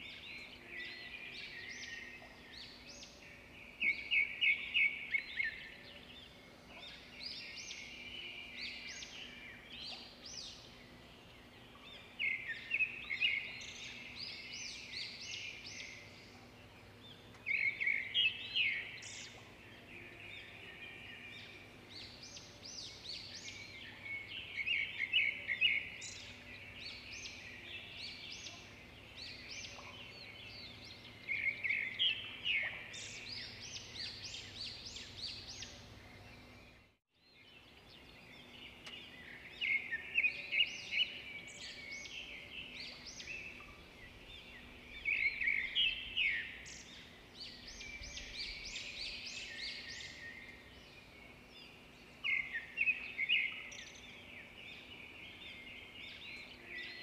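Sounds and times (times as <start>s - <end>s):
faint bird chirping: 0.0s - 57.0s.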